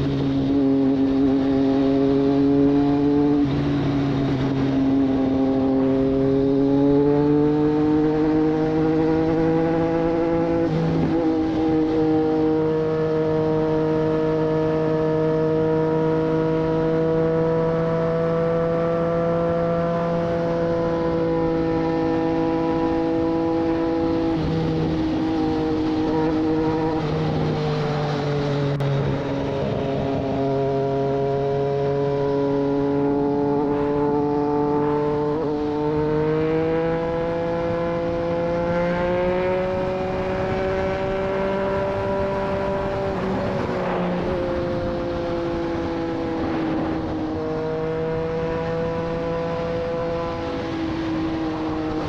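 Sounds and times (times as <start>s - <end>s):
motorcycle engine cruising: 0.0s - 52.0s.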